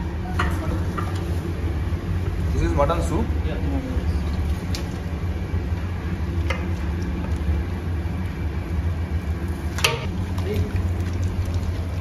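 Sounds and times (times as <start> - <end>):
low rumble of kitchen machinery: 0.0 - 12.0.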